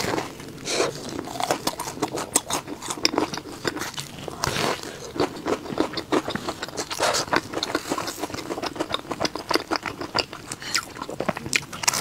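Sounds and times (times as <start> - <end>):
chewing crisp pastry: 0.0 - 12.0.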